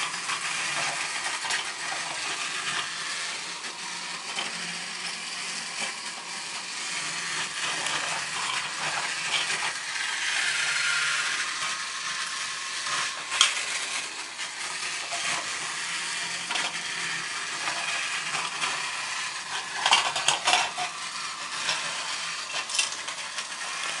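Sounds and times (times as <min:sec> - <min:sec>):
toy train whirring rattle: 0:00.0 - 0:24.0.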